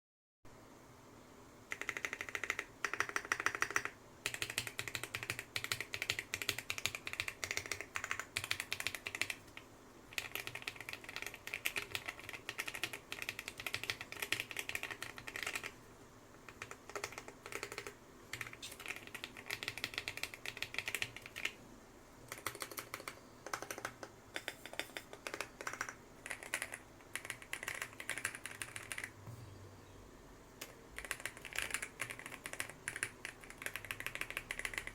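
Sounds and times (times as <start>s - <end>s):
mechanical keyboard typing: 1.7s - 15.8s, 16.4s - 21.6s, 22.2s - 29.2s, 30.6s - 34.9s.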